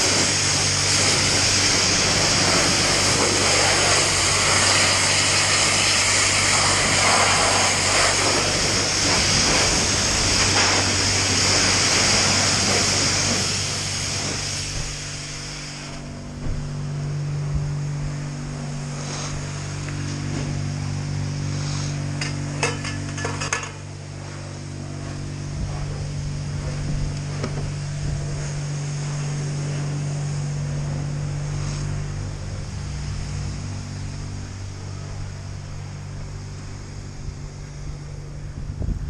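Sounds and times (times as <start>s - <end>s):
pressure washer spraying water: 0.0s - 38.3s
low machine hum: 0.0s - 39.0s.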